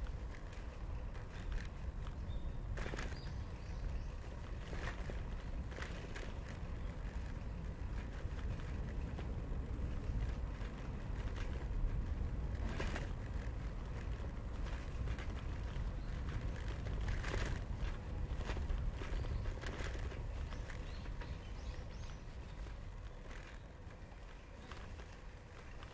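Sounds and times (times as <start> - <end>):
wind and tyre rumble: 0.0 - 25.9.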